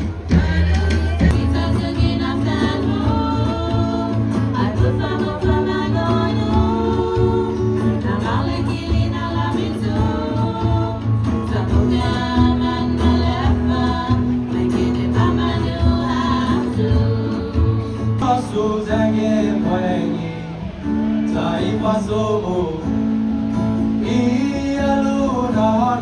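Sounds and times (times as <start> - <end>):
song with voices bass and guitar: 0.0 - 26.0.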